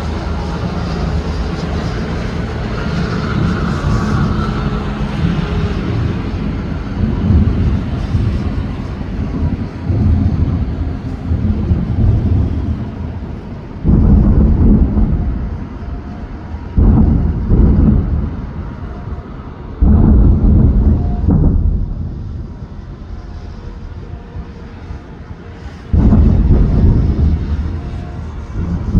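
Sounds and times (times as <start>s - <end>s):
low booming rumble: 0.0s - 28.9s
fireworks bursting: 5.1s - 28.9s.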